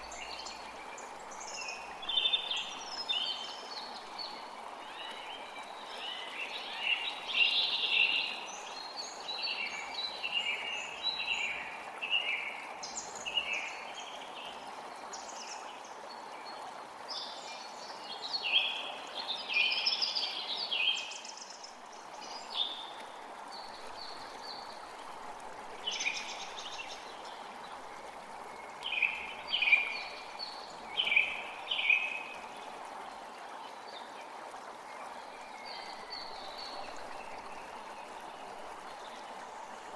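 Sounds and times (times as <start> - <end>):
creek rushing: 0.0 - 39.9
songbirds chirping: 0.0 - 39.9.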